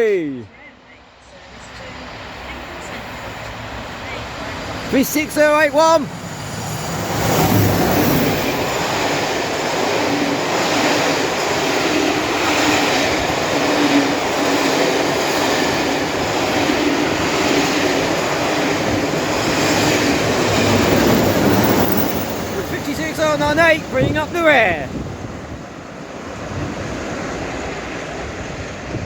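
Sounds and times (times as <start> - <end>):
train passing at high speed: 0.6 - 29.0
wheels rattling on rails: 2.1 - 29.0.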